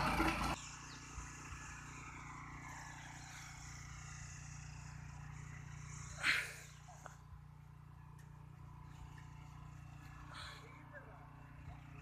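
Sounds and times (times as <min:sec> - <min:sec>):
tiller engine running: 0:00.0 - 0:12.0.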